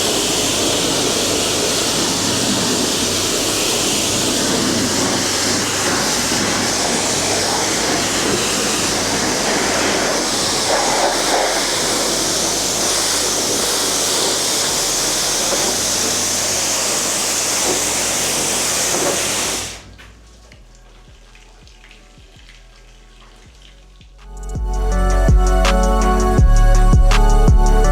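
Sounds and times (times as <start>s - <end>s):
water spraying onto car: 0.0s - 27.9s.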